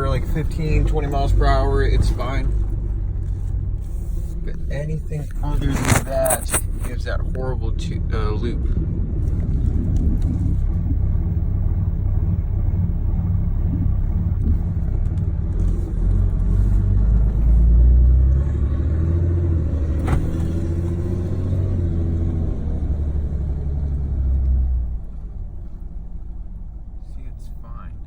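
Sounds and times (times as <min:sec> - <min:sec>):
diesel engine running rough: 0:00.0 - 0:28.0.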